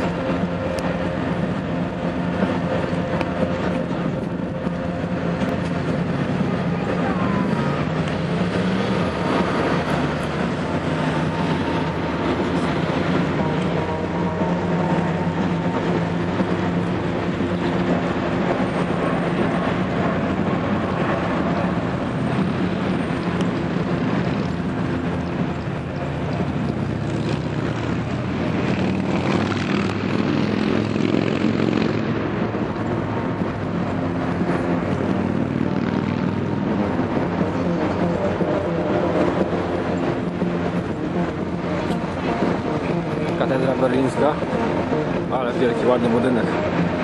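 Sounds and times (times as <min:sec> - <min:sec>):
mechanical drone: 0:00.0 - 0:47.0.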